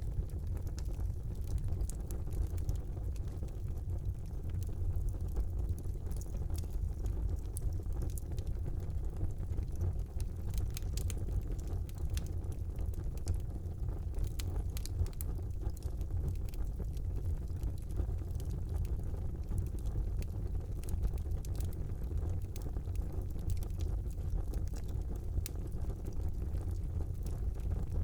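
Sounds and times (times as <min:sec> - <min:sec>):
logs crackling and popping: 0:00.0 - 0:28.0
low rumble of flames: 0:00.0 - 0:28.0.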